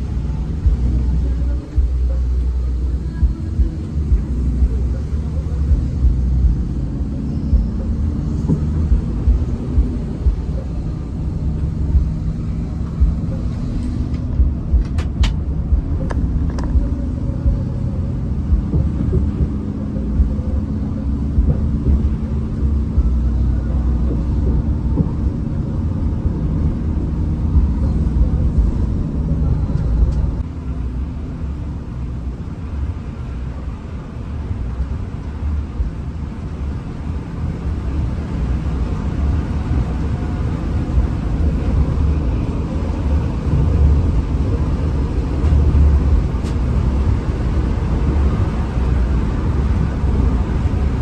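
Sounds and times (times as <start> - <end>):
bus diesel engine running: 0.0 - 51.0
road rumble: 0.0 - 51.0.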